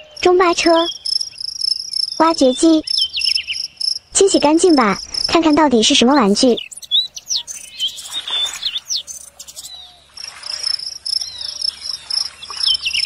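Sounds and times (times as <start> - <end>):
birds chirping: 0.0 - 13.0
insect pulsing trill: 0.0 - 13.0.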